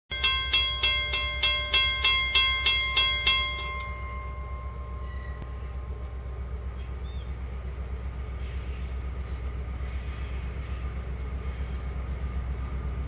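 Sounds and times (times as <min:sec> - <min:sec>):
railroad crossing bell ringing: 0:00.1 - 0:12.8
steady low rumble: 0:00.1 - 0:13.0.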